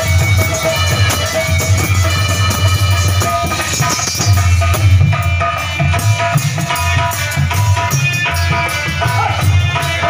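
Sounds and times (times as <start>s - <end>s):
hand drums beating: 0.0s - 10.0s
jingling rattling percussion: 0.0s - 10.0s.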